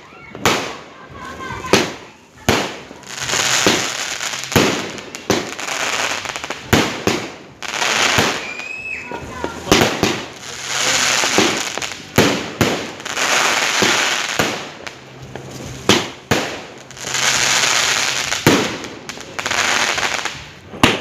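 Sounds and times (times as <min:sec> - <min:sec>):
fireworks bangs: 0:00.0 - 0:21.0
fireworks hissing: 0:00.0 - 0:21.0.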